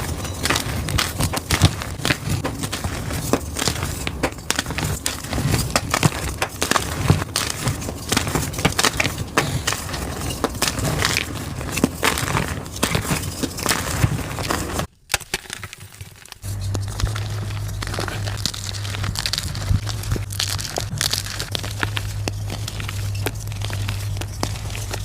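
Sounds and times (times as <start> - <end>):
chalk blocks crunching: 0.0 - 25.0.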